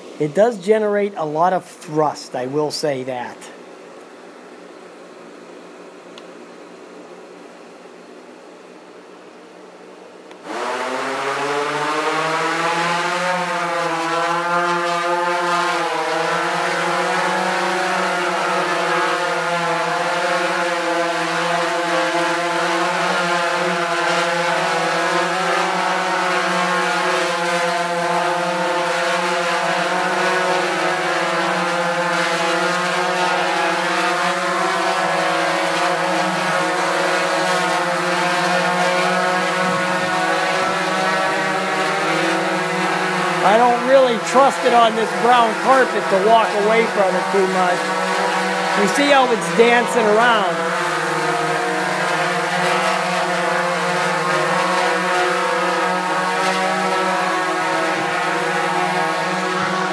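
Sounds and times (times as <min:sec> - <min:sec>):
drone propellers buzzing: 0:10.4 - 0:59.9.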